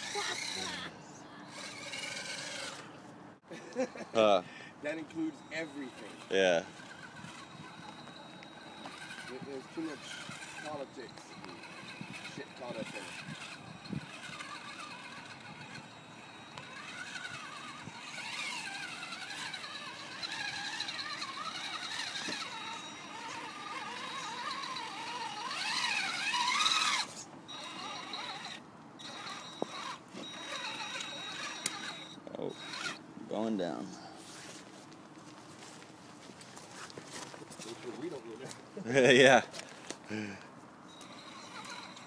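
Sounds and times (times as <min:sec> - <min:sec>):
electric motor and gears whining: 0:00.0 - 0:03.0, 0:03.7 - 0:42.0.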